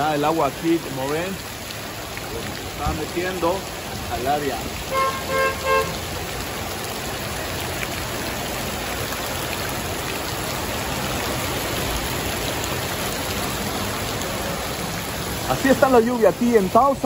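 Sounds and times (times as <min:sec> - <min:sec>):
heavy rain on wet pavement: 0:00.0 - 0:17.0.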